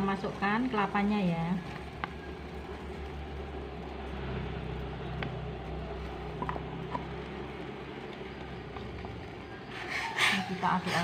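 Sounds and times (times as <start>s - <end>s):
syrup boiling in a pot: 0.0s - 11.0s.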